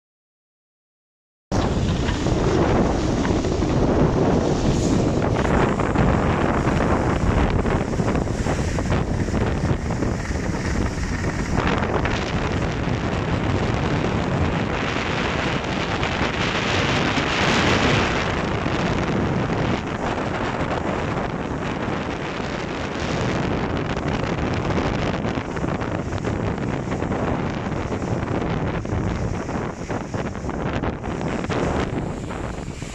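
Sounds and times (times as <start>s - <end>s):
water rushing along hull: 1.5s - 32.9s
wind buffeting microphone: 1.5s - 32.9s.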